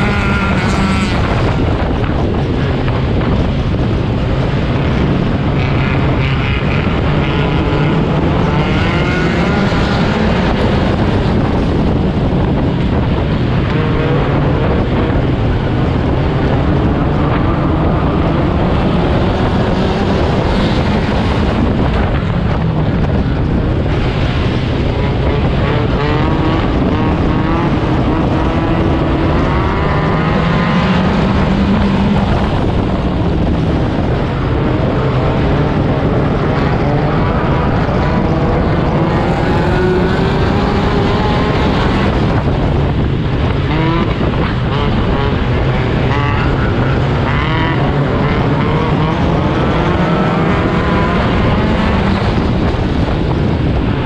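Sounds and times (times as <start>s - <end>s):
other race cars: 0.0s - 54.0s
race car engine running hard: 0.0s - 54.0s.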